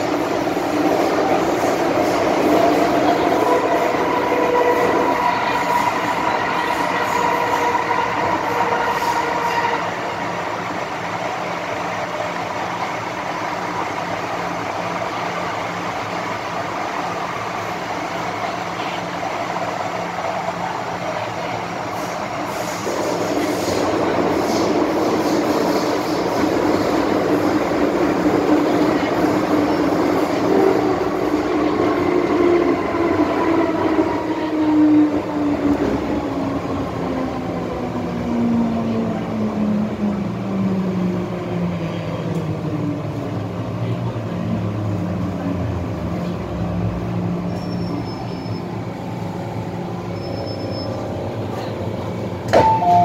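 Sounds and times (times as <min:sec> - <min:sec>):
train wheels rumbling in tunnel: 0:00.0 - 0:53.0.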